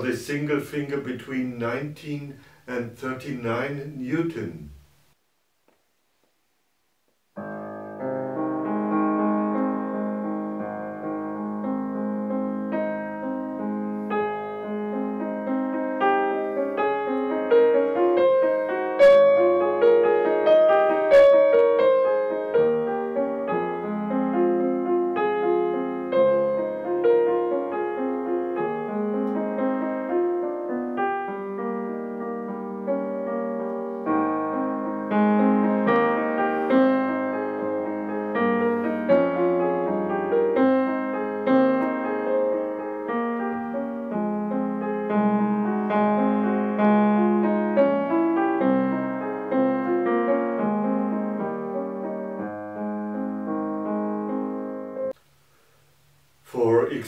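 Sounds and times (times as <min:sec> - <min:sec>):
piano melody over chords: 0:07.4 - 0:55.2.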